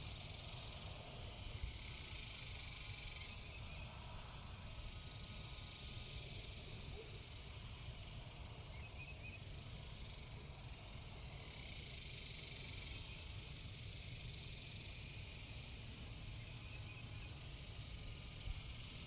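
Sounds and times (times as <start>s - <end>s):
high hiss: 0.0s - 19.0s.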